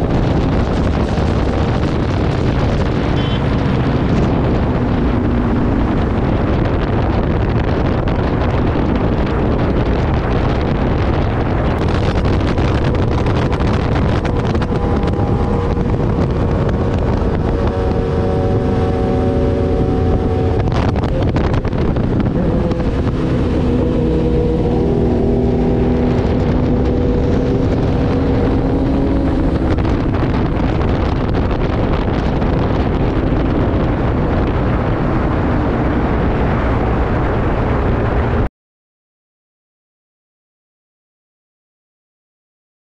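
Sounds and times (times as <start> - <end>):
motorcycle engine running: 0.0 - 36.2
wind rush on microphone: 0.0 - 38.5.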